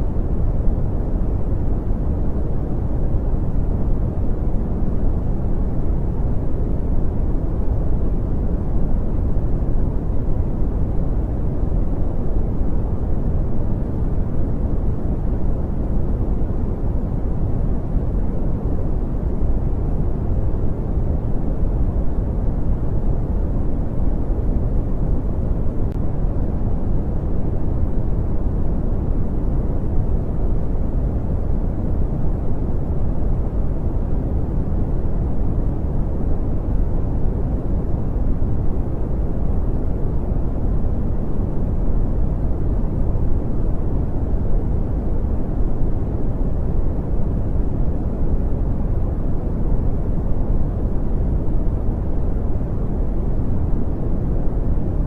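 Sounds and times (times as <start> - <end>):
brown noise rumbling hiss: 0.0 - 55.0.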